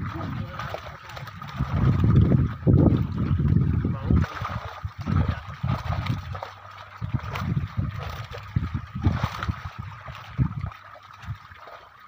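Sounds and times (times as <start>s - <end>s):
fish thrashing in water: 0.0s - 12.0s.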